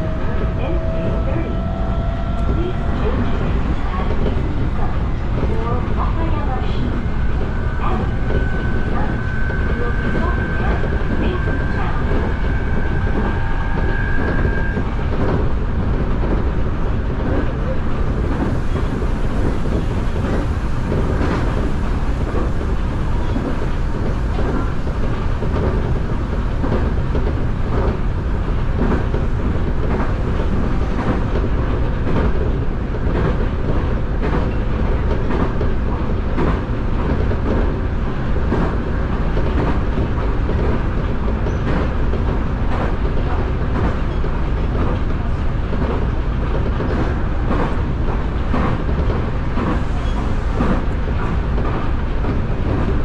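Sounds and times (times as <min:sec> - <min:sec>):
electric train rumble: 0:00.0 - 0:53.0.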